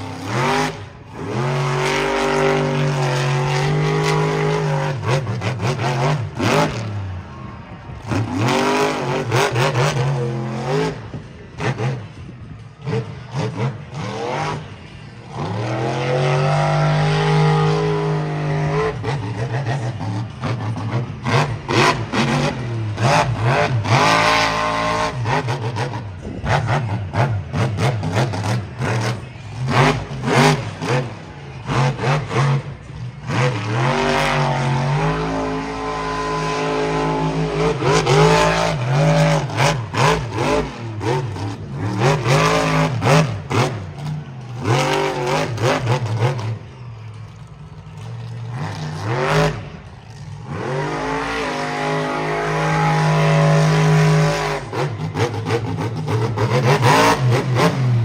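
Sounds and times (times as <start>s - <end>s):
truck engine revving hard: 0.0s - 46.8s, 48.0s - 58.0s.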